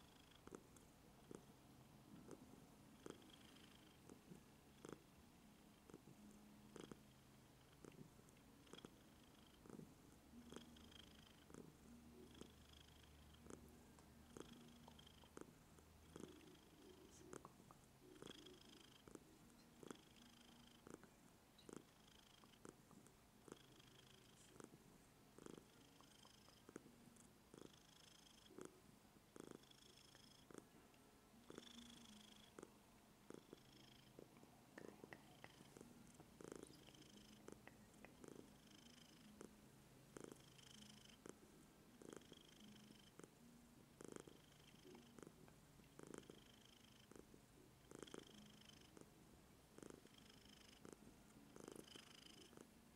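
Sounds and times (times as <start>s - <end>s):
cat purring softly: 0.0s - 52.9s.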